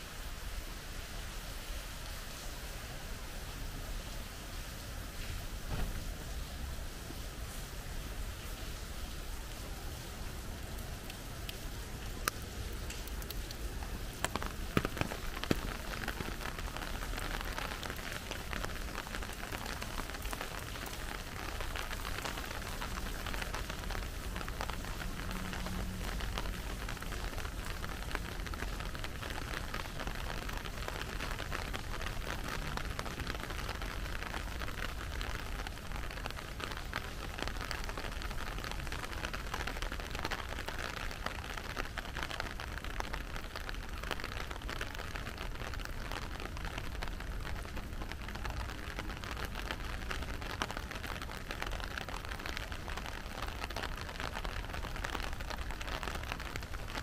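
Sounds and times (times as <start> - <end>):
steady rain falling: 0.0 - 57.0
sharp raindrop hits: 2.4 - 57.0.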